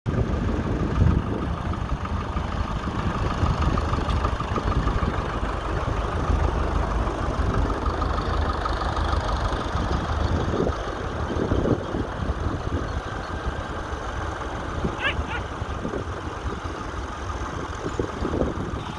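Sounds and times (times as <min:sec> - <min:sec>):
tractor diesel engine running: 0:00.1 - 0:18.9.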